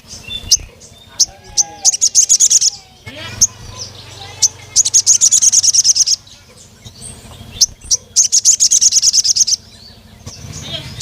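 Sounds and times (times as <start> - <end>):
bird high-pitched chirps: 0.0 - 11.0.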